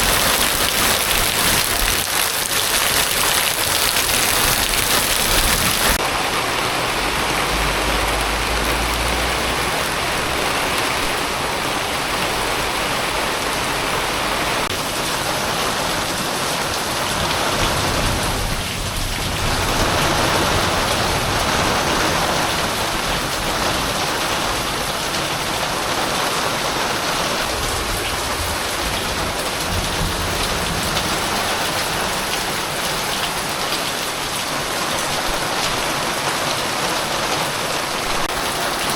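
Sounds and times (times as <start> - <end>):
rain in windy storm: 0.0 - 38.9.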